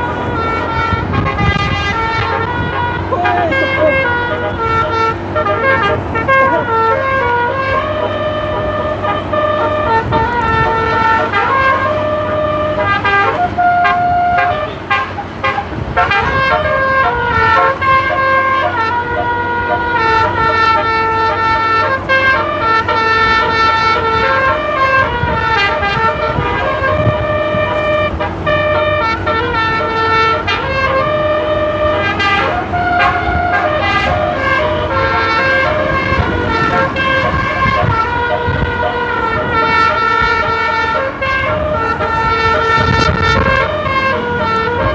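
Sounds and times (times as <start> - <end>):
musical air horn playing a melody: 0.0 - 44.9.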